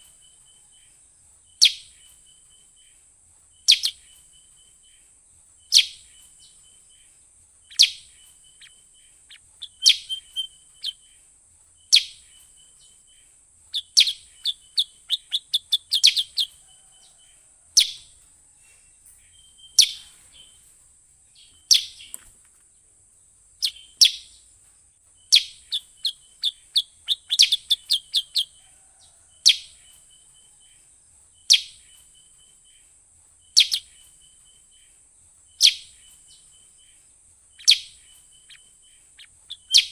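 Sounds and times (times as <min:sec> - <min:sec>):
bird rattling trill: 0:00.0 - 0:18.4, 0:19.2 - 0:22.4, 0:23.3 - 0:39.9
steady high hiss: 0:00.0 - 0:39.9.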